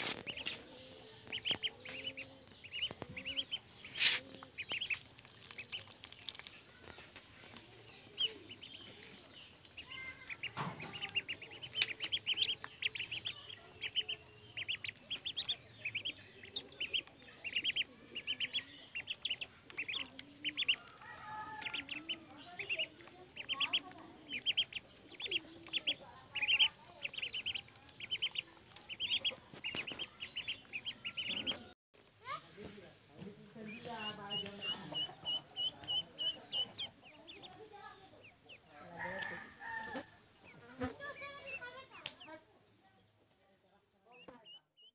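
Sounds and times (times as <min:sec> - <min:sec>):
ducklings peeping: 0:00.0 - 0:31.8, 0:33.2 - 0:42.4.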